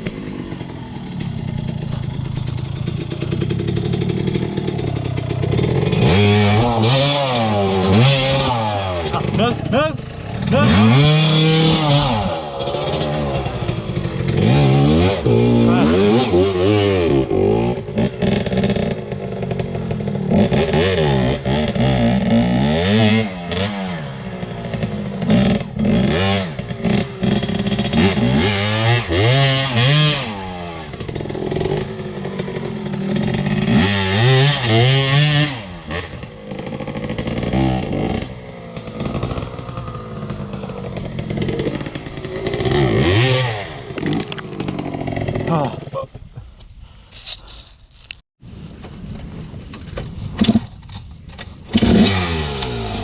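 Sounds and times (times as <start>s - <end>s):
dirt bike engine revving: 0.0s - 46.0s, 51.5s - 53.0s.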